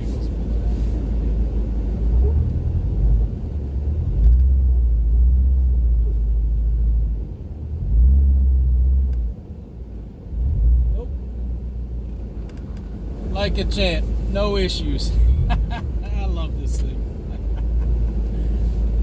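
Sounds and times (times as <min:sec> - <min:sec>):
vehicle rumble in snow: 0:00.0 - 0:19.0.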